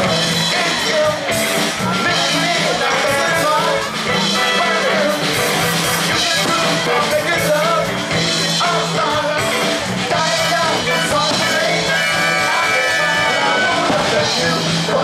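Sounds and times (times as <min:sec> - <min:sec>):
live funk band: 0:00.0 - 0:15.0
person singing: 0:00.0 - 0:15.0.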